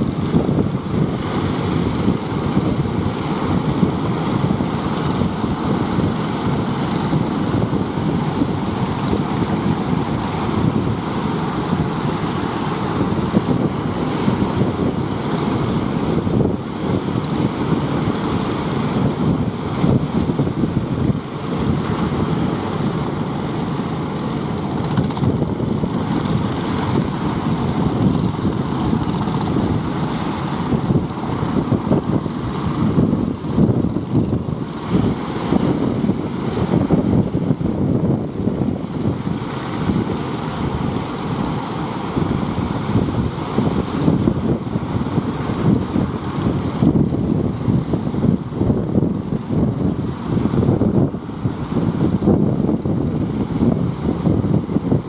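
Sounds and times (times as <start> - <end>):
waves breaking: 0.0 - 55.0
wind on microphone: 0.0 - 55.0.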